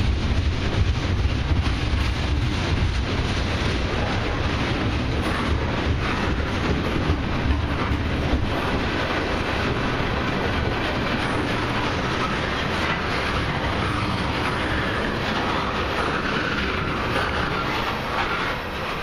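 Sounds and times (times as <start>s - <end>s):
train wheels rumbling on rails: 0.0s - 19.0s
wheels clicking over track joints: 0.0s - 19.0s.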